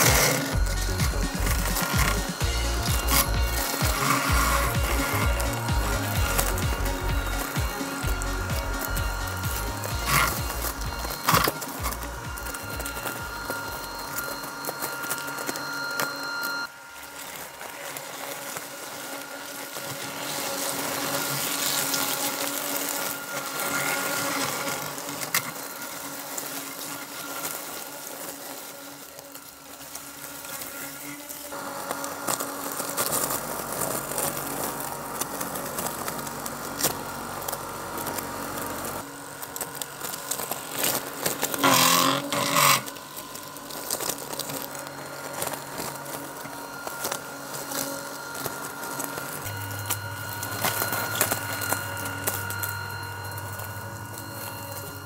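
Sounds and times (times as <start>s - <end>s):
robotic mower motors whirring: 0.0s - 55.0s.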